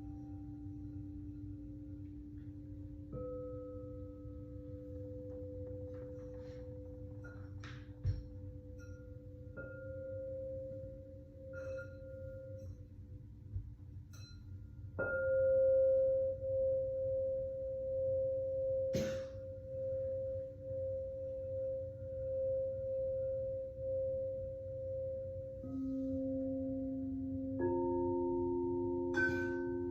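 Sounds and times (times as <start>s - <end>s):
singing bowl ringing: 0.0s - 13.3s, 14.1s - 29.9s.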